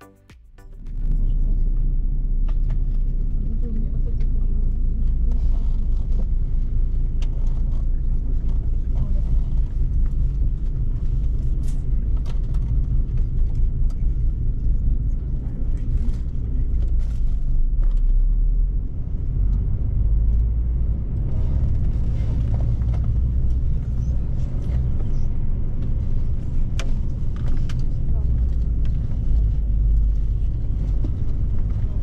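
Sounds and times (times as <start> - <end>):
diesel engine rumbling: 0.0 - 32.0.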